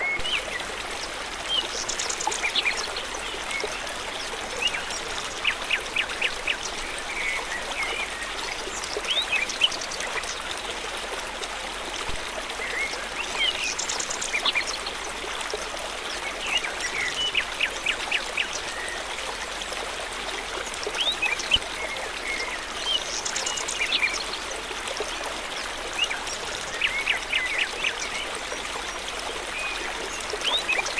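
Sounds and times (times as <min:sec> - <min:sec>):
stream running: 0:00.0 - 0:30.9.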